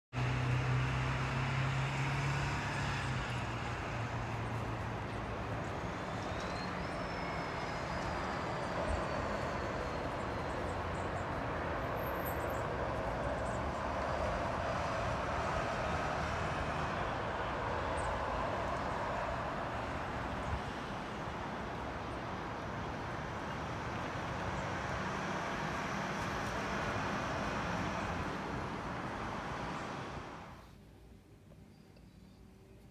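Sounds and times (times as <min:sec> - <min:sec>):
distant road traffic rumble: 0:00.1 - 0:32.9
low engine hum: 0:00.2 - 0:31.7.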